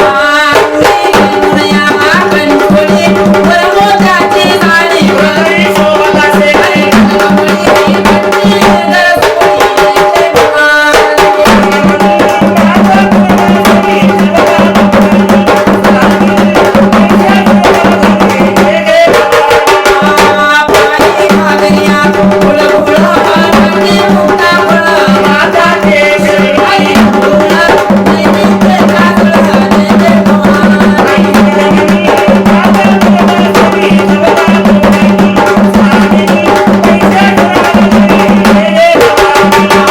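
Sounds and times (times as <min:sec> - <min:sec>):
stick-played drums: 0:00.0 - 0:39.9.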